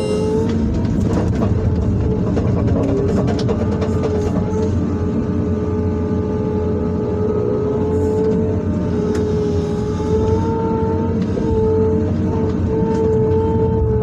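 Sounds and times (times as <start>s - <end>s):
excavator diesel engine running: 0.0s - 14.0s
hydraulic pump whine: 0.0s - 14.0s.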